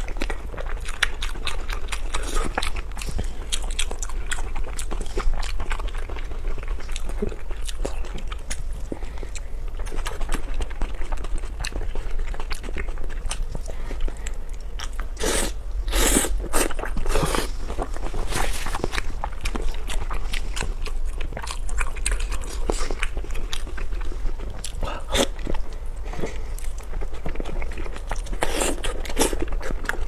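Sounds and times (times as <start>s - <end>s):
chewing and crunching: 0.0s - 30.0s.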